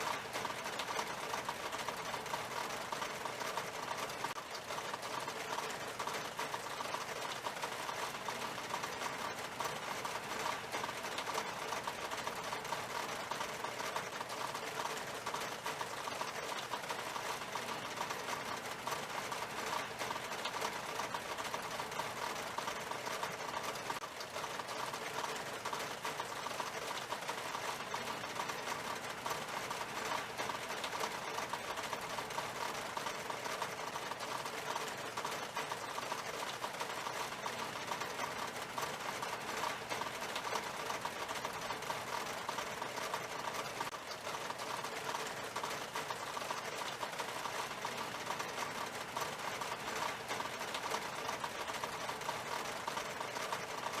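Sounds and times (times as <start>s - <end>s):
rain on window glass: 0.0s - 54.0s.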